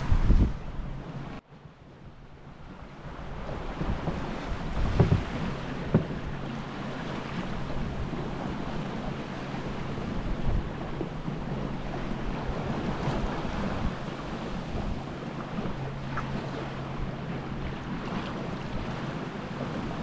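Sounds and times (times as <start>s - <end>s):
water rushing along a hull: 0.0s - 20.0s
wind buffeting the microphone: 0.0s - 20.0s.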